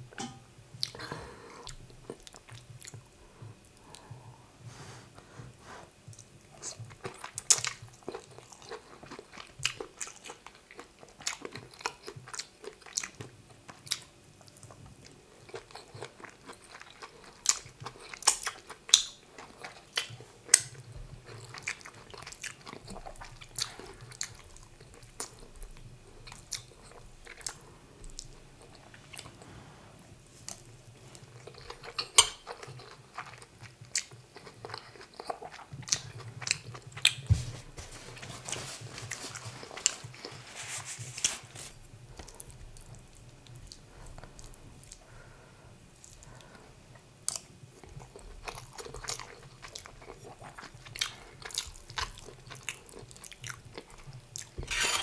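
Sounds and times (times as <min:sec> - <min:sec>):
person chewing with wet mouth sounds: 0:00.8 - 0:04.3, 0:05.9 - 0:40.6, 0:41.2 - 0:55.0.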